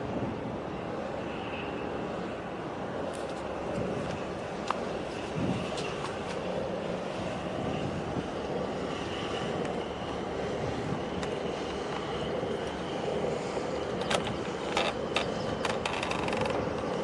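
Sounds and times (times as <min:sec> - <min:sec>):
engines droning across water: 0:00.0 - 0:17.0.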